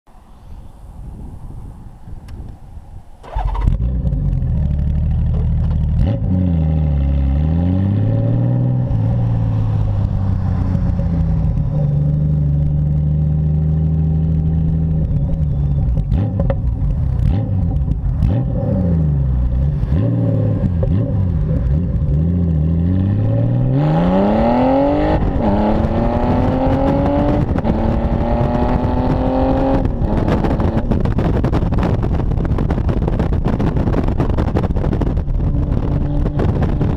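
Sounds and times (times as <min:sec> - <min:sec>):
motorcycle engine revving: 0:03.2 - 0:36.9.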